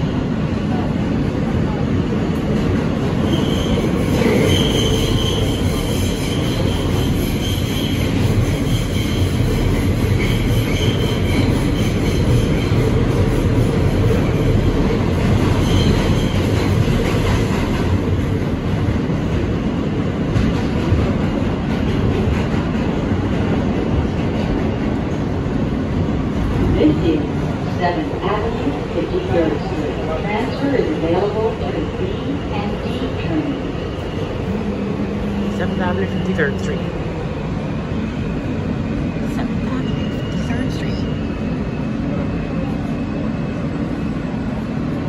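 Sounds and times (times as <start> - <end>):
subway wheels rumbling on rail: 0.0 - 45.0.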